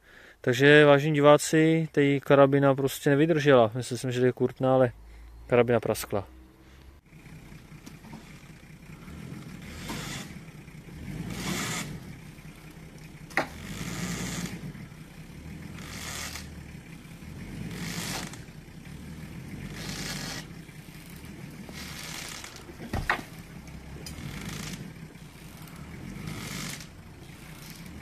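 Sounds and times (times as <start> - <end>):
car engine running: 5.1 - 28.0.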